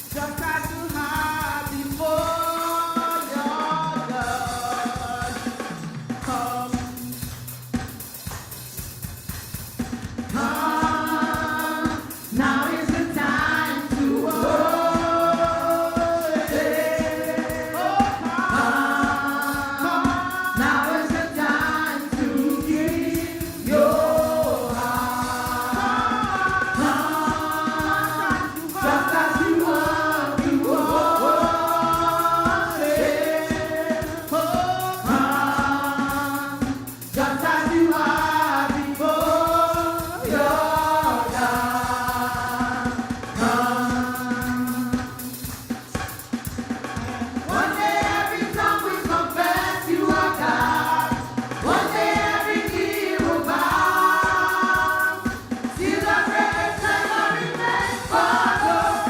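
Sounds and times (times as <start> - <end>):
choir singing in harmony: 0.0 - 7.2, 10.3 - 46.0, 46.8 - 59.0
drum kit beat: 0.0 - 59.0.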